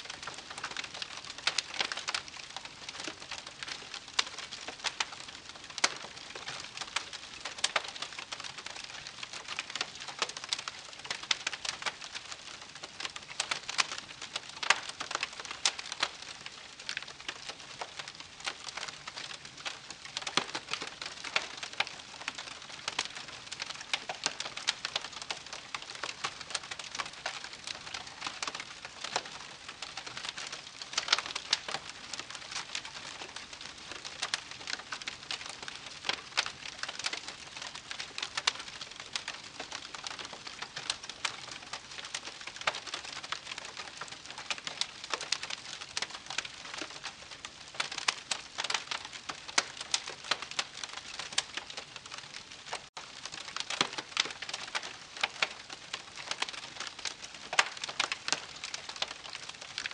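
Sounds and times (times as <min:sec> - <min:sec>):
campfire crackling: 0:00.0 - 0:59.9
fire popping and snapping: 0:00.1 - 0:59.9.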